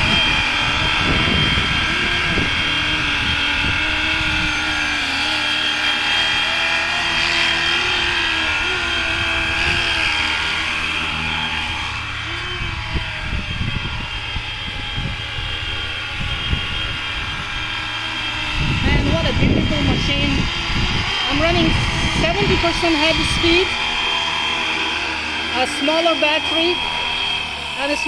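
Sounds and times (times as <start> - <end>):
rc helicopter motor whine: 0.0 - 28.0
rotor buzz: 0.0 - 28.0.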